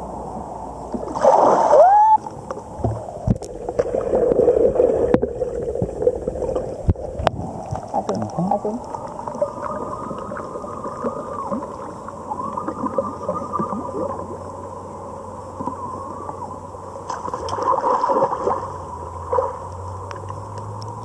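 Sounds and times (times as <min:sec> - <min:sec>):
underwater bubbling and gurgling: 0:00.0 - 0:21.0.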